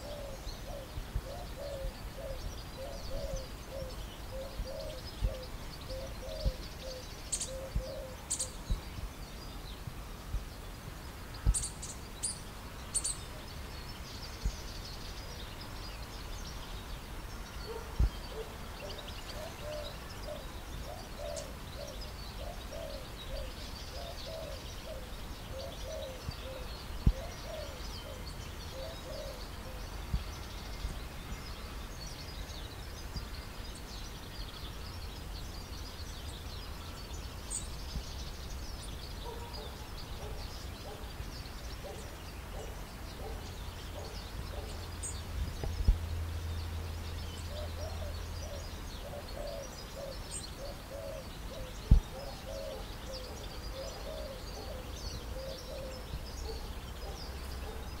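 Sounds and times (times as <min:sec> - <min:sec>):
background hiss: 0:00.0 - 0:58.0
birds chirping and calling: 0:00.0 - 0:58.0
low repeated bird calls: 0:00.0 - 0:58.0.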